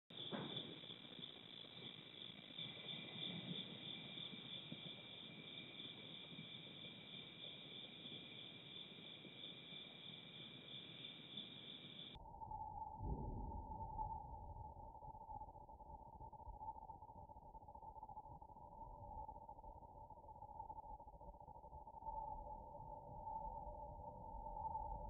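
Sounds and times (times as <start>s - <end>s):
night insects trilling: 0.1s - 25.0s.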